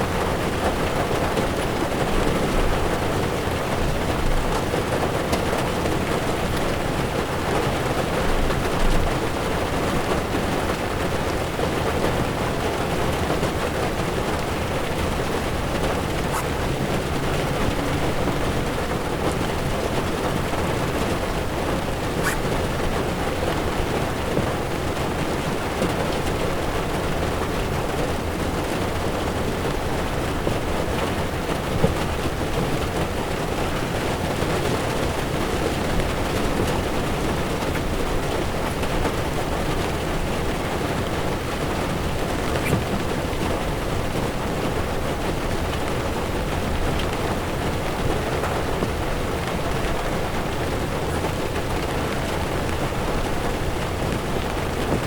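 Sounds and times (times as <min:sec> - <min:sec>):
rain drumming on a car: 0:00.0 - 0:55.0.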